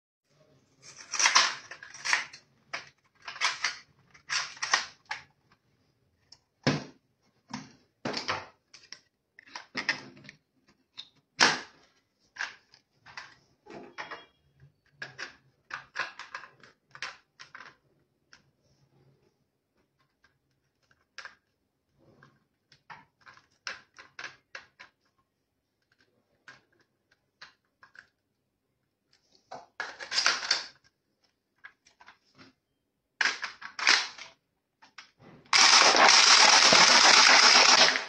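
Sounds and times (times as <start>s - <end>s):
plastic toy parts clicking and rattling: 0.8s - 5.6s, 8.2s - 13.4s, 14.6s - 18.8s, 19.9s - 32.3s, 33.2s - 38.0s.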